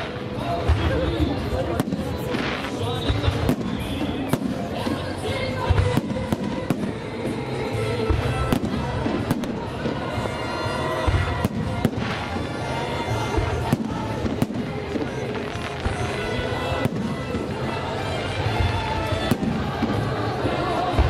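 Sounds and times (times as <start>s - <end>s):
fireworks bursting with bangs: 0.0s - 21.0s
music playing: 0.0s - 21.0s.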